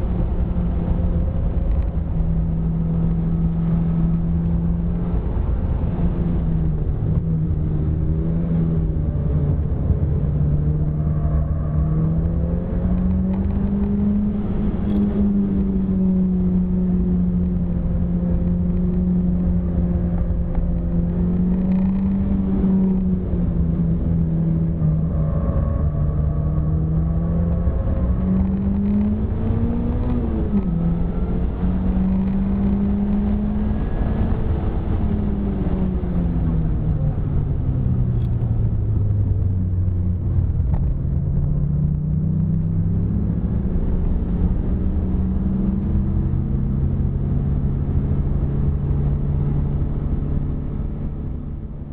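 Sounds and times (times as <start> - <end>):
car engine from inside cabin: 0.0 - 51.9.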